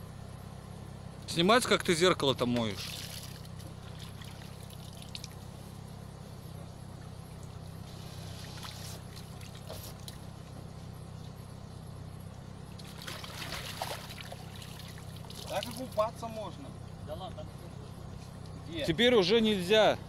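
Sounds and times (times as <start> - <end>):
low engine drone: 0.0 - 20.0
water sloshing against vehicle: 0.7 - 20.0.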